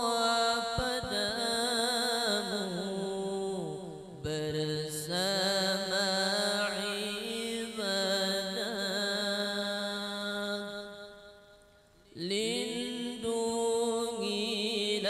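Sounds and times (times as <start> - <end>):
man singing slow melody: 0.0 - 15.0.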